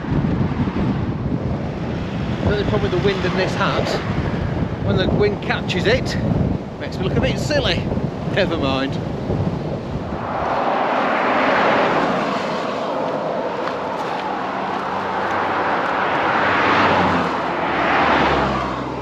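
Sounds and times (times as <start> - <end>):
cars passing: 0.0 - 7.2, 7.8 - 19.0.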